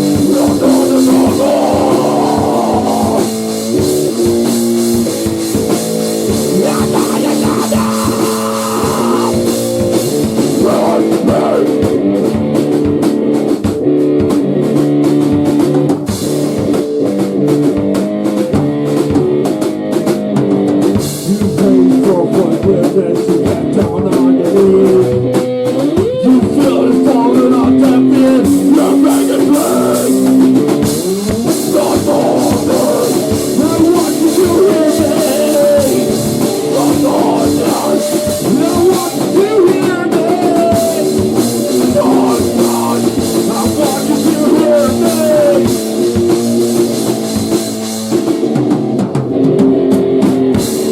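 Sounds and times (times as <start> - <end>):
held guitar notes: 0.0 - 50.9
rock band playing: 0.0 - 50.9
steady drumming: 0.0 - 50.9.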